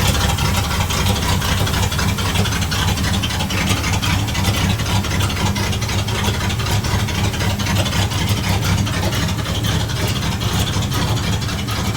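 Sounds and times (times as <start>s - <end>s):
fast even engine ticking: 0.0s - 11.9s
truck engine idling: 0.0s - 11.9s.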